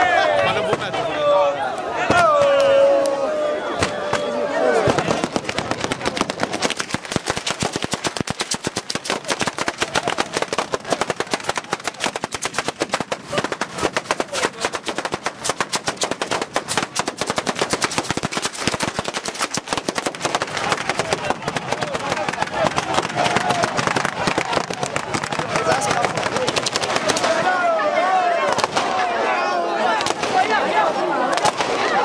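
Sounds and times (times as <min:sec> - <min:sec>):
firecrackers banging rapidly: 0:03.8 - 0:27.7, 0:28.4 - 0:29.1, 0:30.0 - 0:30.7, 0:31.3 - 0:32.0.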